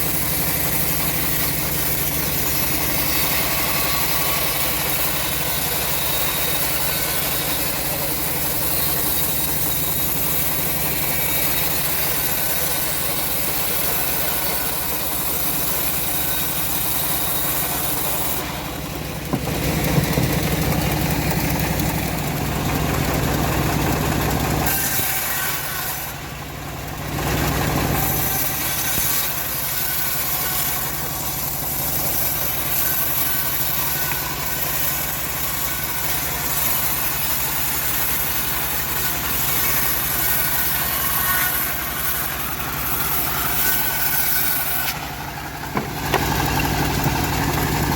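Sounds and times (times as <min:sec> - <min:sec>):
bandsaw sawmill sawing wood: 0:00.0 - 0:47.9.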